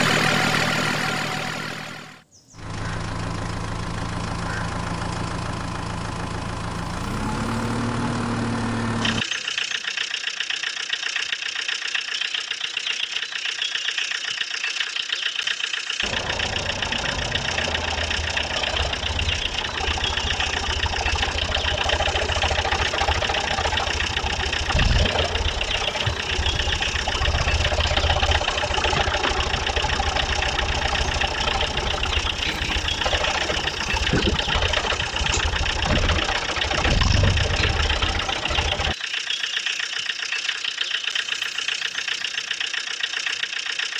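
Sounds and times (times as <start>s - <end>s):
engine idling with deep knocking: 2.6s - 7.6s, 9.9s - 39.0s, 39.9s - 43.9s.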